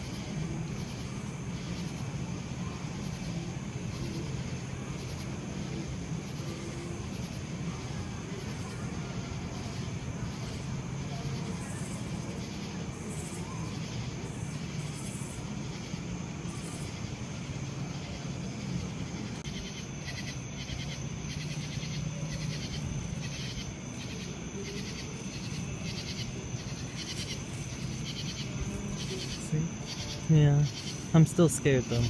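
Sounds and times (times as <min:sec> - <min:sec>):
insects chirping: 0:00.0 - 0:32.0
steady low hum: 0:00.0 - 0:32.0.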